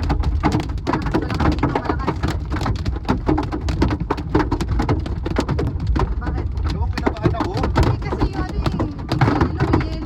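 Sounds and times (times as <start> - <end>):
heavy rain pattering: 0.0 - 10.0.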